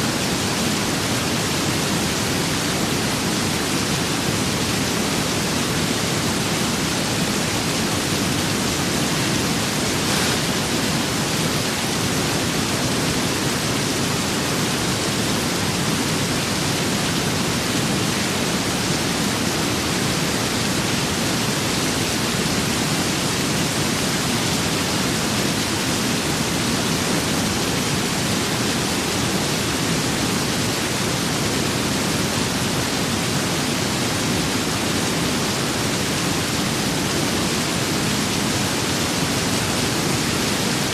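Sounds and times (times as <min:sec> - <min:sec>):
rain with wind: 0:00.0 - 0:40.9.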